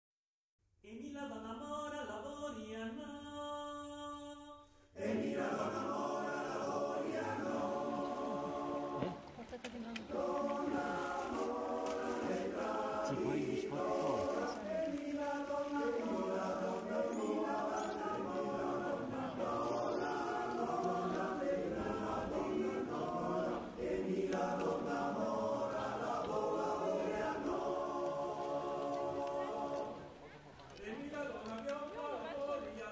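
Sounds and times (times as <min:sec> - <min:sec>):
choir singing slow song: 0:00.9 - 0:32.9.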